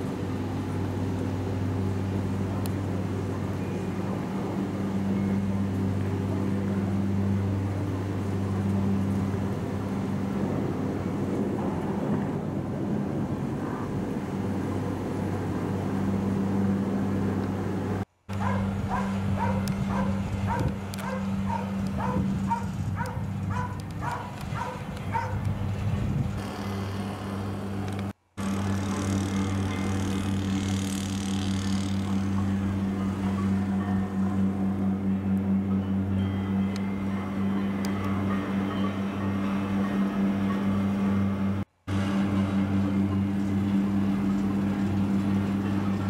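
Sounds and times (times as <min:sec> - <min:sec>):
cable car gondola humming: 0:00.0 - 0:46.0.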